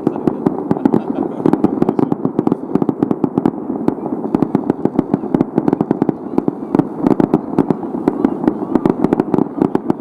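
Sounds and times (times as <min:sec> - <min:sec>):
fireworks popping: 0:00.0 - 0:10.0
fireworks rumble: 0:00.0 - 0:10.0.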